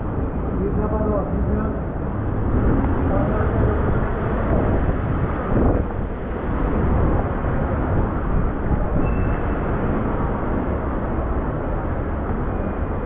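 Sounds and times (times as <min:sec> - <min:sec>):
passing traffic: 0:00.0 - 0:13.0
wind rumbling on microphone: 0:00.0 - 0:13.0.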